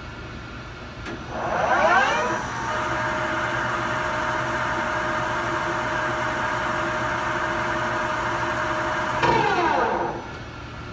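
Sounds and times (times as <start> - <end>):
lathe whine: 1.3 - 10.3.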